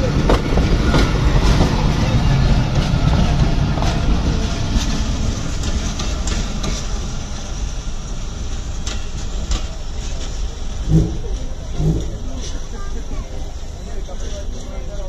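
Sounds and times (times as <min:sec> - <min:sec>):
train coaches rumbling past: 0:00.0 - 0:15.0.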